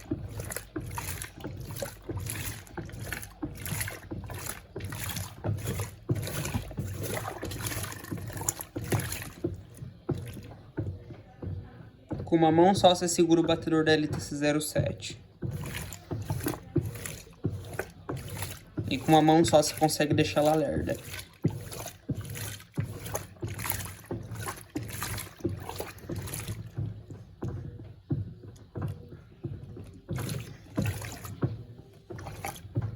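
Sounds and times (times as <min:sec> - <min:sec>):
low motor hum: 0:00.0 - 0:32.9
washing machine agitator sloshing: 0:00.0 - 0:32.9
water and clothes churning: 0:00.0 - 0:32.9.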